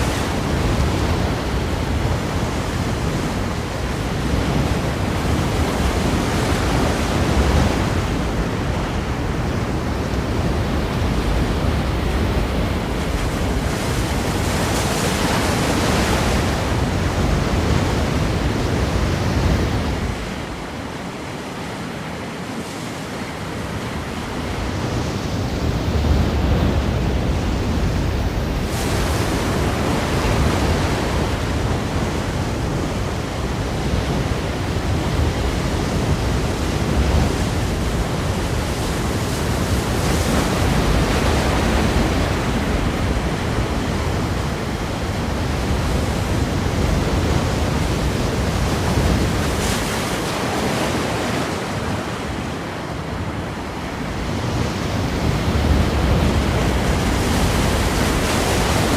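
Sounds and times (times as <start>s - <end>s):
ocean waves breaking: 0.0s - 58.9s.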